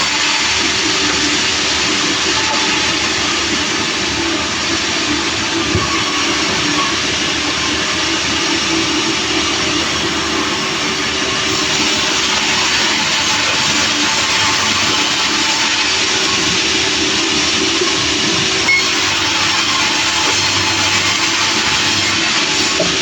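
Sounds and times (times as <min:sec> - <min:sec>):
sawmill saw cutting log: 0:00.0 - 0:23.0.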